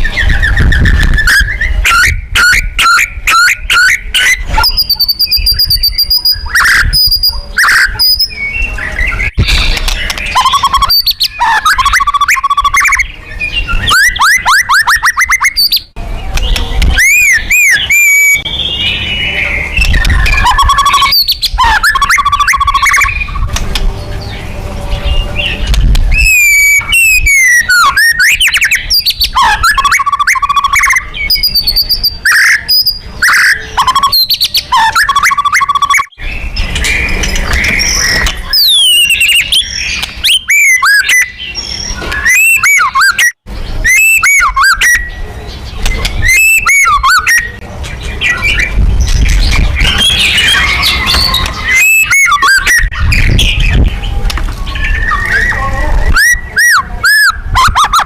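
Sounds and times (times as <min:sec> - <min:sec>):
songbird singing whistles and trills: 0:00.0 - 0:23.6, 0:24.2 - 0:58.0.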